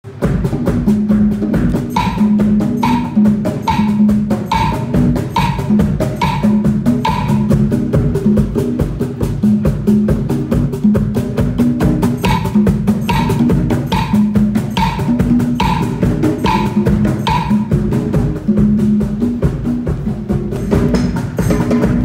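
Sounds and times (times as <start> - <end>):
percussion-led dance music: 0.0 - 22.0.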